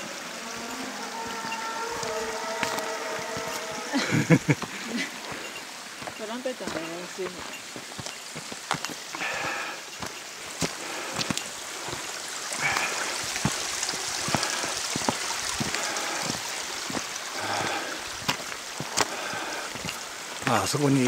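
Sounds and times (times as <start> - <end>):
footsteps crunching on stones: 0.0 - 21.0
mountain stream rushing: 0.0 - 21.0.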